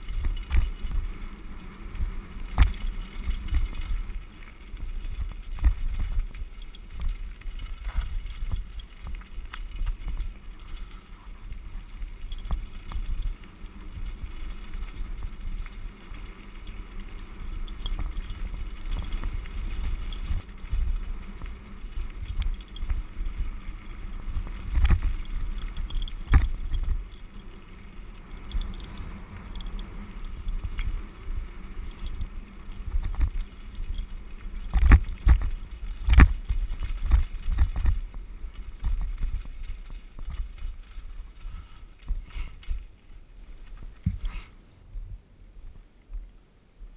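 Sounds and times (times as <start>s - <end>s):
tyres crunching on gravel: 0.0s - 44.6s
bike rattling: 0.0s - 44.8s
wind rumble on microphone: 0.0s - 46.9s.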